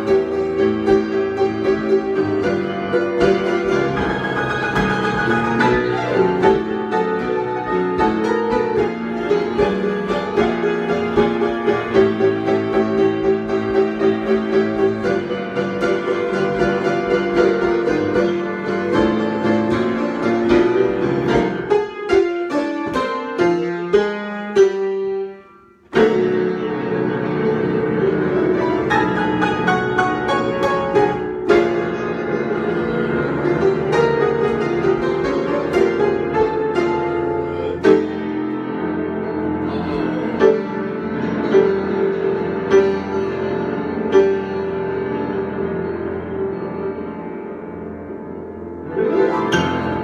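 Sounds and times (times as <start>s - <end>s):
improvised piano music: 0.0s - 50.0s.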